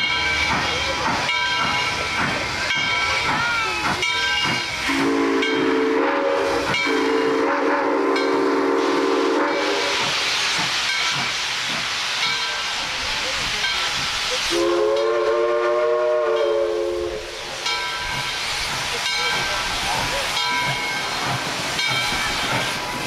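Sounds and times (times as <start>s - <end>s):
steam locomotive hissing: 0.0s - 23.0s.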